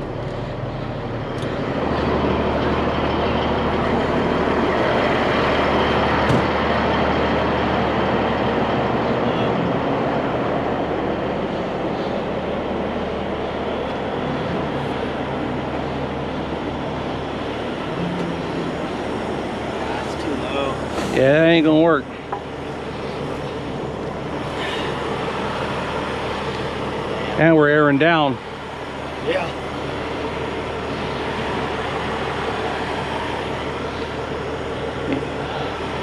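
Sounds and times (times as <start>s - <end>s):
heavy engine running: 0.0s - 36.0s.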